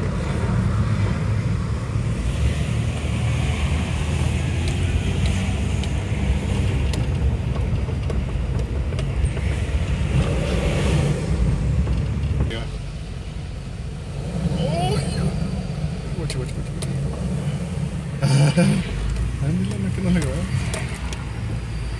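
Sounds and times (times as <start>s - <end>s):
car engine rumble: 0.0s - 21.9s
road noise: 0.0s - 21.9s.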